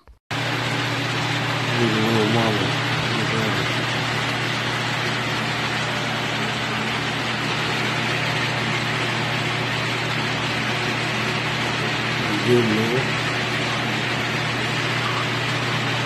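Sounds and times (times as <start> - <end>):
ventilation fans rushing air: 0.4 - 16.0.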